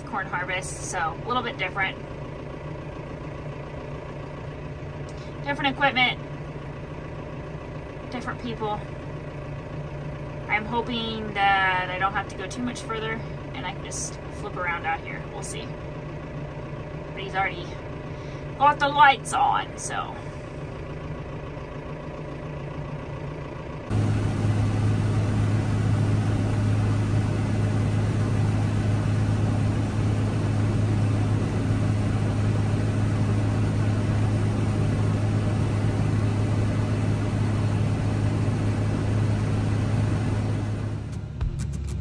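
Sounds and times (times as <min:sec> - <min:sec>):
combine auger droning: 0:00.0 - 0:42.0
tractor cab noise: 0:00.0 - 0:42.0.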